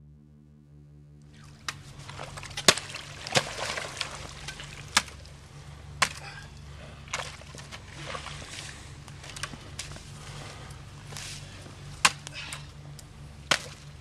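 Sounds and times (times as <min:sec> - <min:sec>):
steady low hum: 0:00.0 - 0:14.0
water sloshing and trickling: 0:01.3 - 0:14.0
ice cracking: 0:01.4 - 0:14.0.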